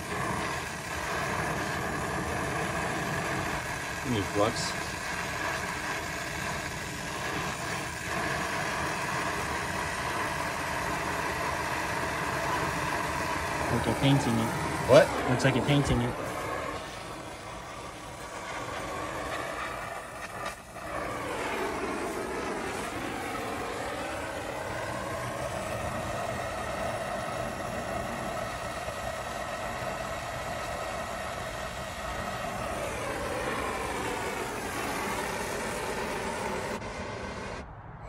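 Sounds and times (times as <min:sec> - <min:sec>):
brazing torch hissing: 0:00.0 - 0:37.6.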